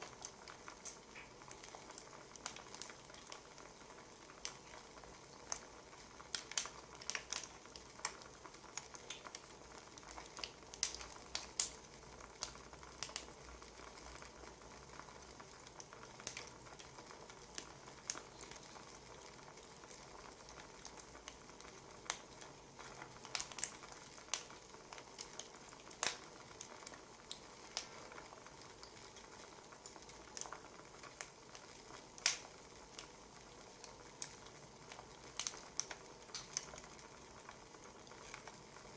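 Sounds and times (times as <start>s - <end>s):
firewood crackling: 0.0s - 38.9s.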